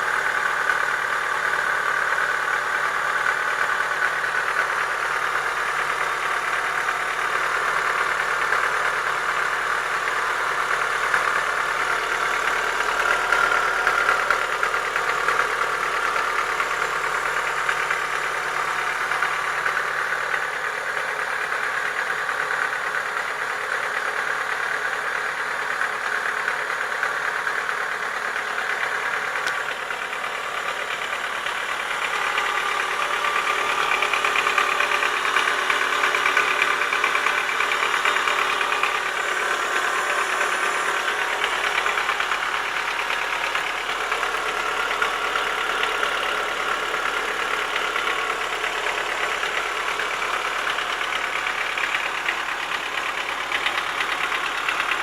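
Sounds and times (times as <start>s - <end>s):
car engine idling: 0.0s - 55.0s
rapid engine knock: 0.0s - 55.0s.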